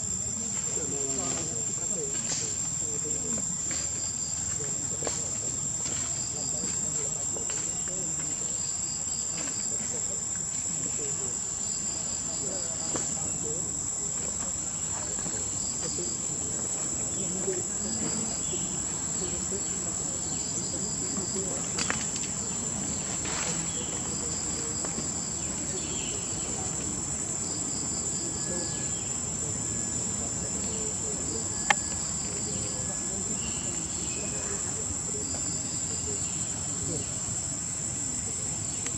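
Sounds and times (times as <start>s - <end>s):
insect chirps: 0.0s - 38.9s.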